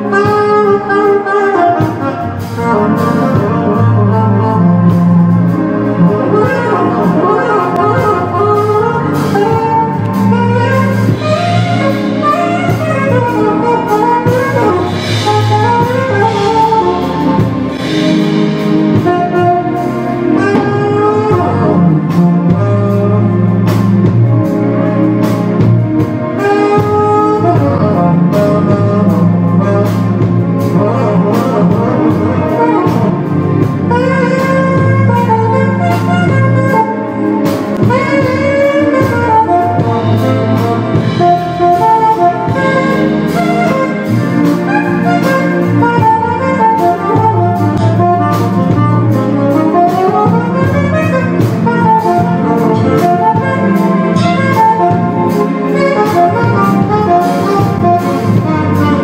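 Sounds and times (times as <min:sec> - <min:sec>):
drum kit: 0:00.0 - 0:59.0
electric bass: 0:00.0 - 0:59.0
keyboard: 0:00.0 - 0:59.0
saxophone melody: 0:00.0 - 0:59.0.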